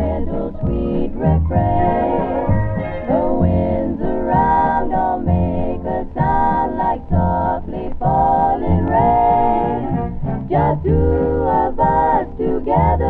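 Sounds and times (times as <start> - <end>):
muffled oldies song on radio: 0.0 - 13.0.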